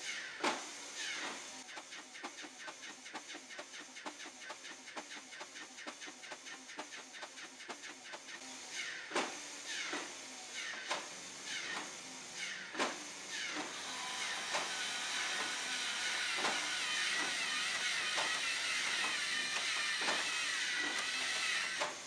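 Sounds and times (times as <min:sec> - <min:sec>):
toy motors whirring: 0:00.1 - 0:22.0.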